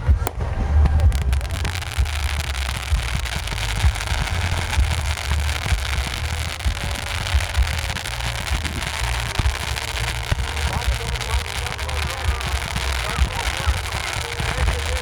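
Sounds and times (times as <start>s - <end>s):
fireworks crackling: 0.0s - 15.0s
low rumble: 0.0s - 15.0s.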